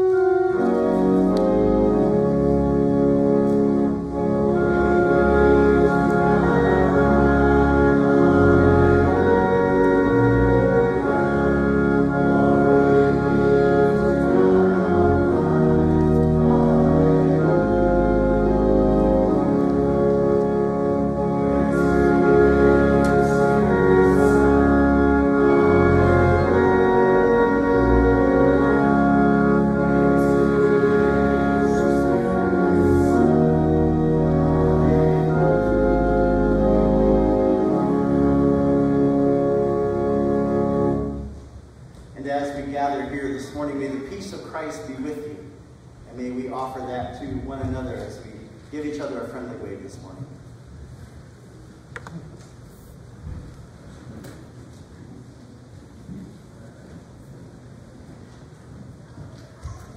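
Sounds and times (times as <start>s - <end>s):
church organ chords: 0.0s - 50.4s.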